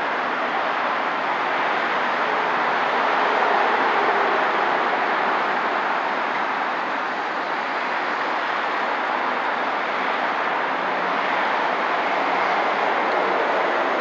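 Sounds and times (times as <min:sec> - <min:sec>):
expressway traffic roar: 0:00.0 - 0:14.0.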